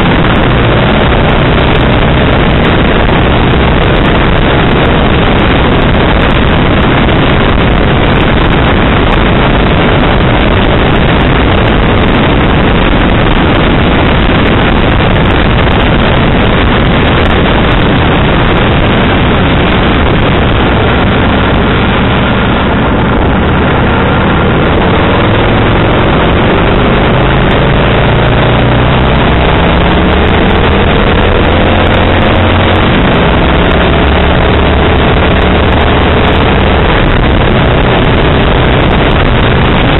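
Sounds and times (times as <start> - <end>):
motorcycle engine: 0.0 - 39.9
wind noise on microphone: 0.0 - 39.9.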